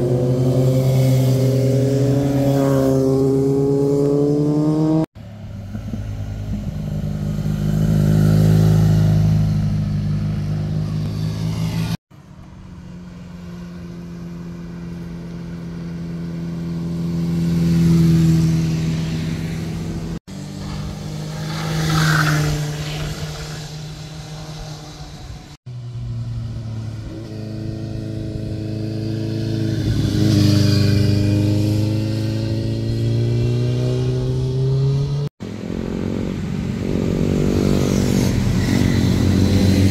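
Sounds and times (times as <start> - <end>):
motorcycles passing: 0.0 - 39.9.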